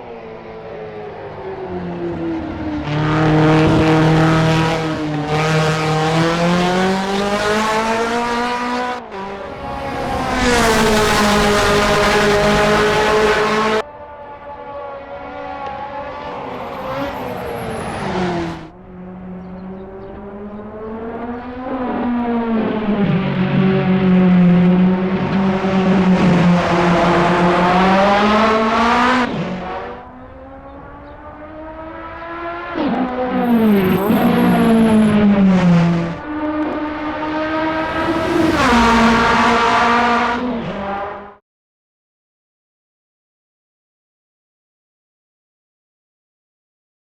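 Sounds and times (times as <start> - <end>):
racing car engines high-revving: 0.0 - 41.4.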